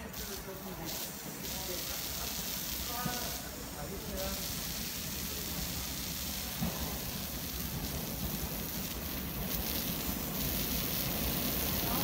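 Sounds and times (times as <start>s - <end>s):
hiss of noise: 0.0s - 12.0s.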